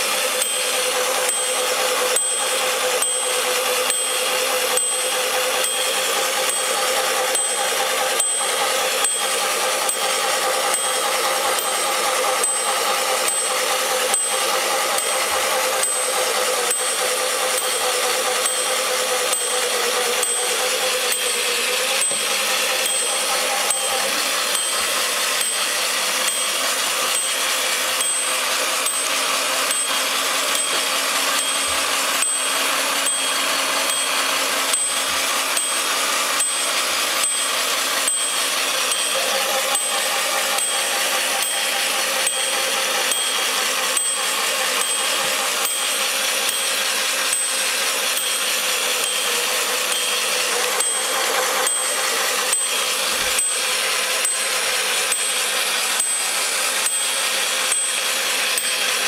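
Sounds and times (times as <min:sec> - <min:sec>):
bell ringing: 0:00.0 - 0:59.0
toy washing machine motor humming: 0:00.0 - 0:59.0.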